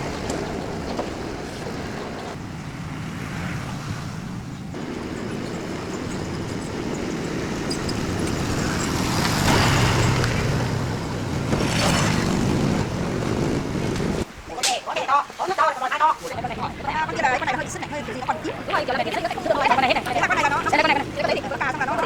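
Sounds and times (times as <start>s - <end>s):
motor vehicle rumbling: 0.0s - 14.3s, 16.3s - 22.0s.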